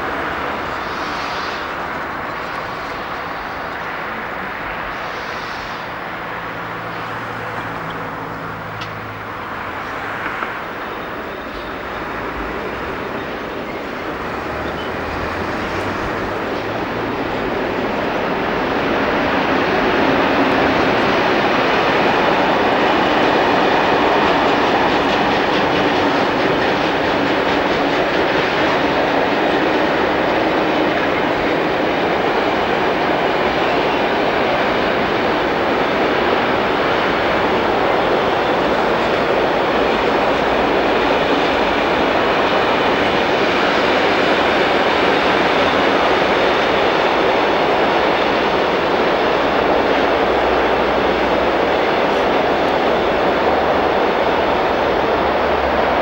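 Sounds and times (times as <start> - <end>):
diesel train rumbling: 0.0 - 56.0
wheels clicking over rail joints: 6.2 - 56.0.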